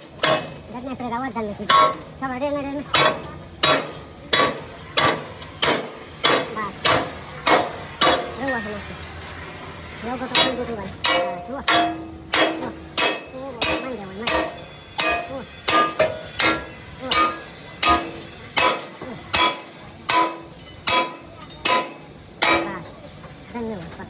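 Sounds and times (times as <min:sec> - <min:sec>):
hammer striking steel: 0:00.0 - 0:00.7, 0:01.6 - 0:02.2, 0:02.9 - 0:08.6, 0:10.3 - 0:23.0.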